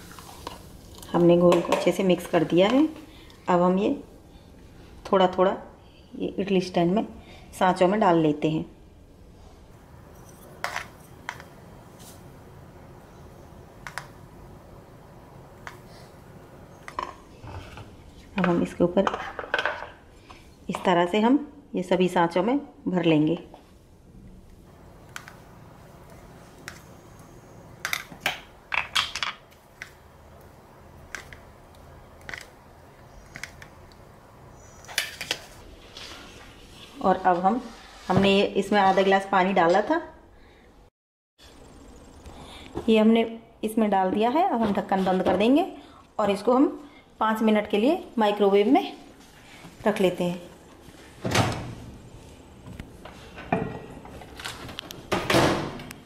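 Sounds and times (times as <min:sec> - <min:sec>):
faint room hum: 0:00.0 - 0:56.0.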